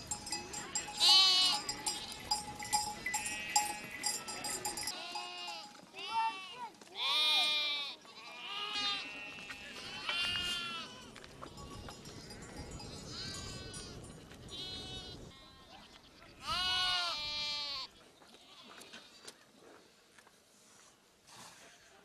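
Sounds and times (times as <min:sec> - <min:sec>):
sheep and goats bleating: 0:00.5 - 0:19.2.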